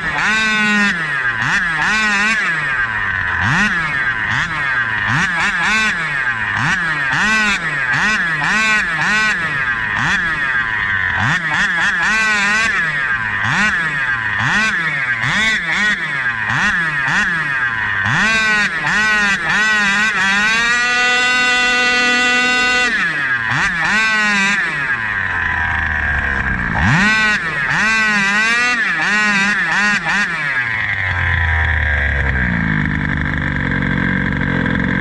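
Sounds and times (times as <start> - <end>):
two-stroke engine revving: 0.0 - 35.0.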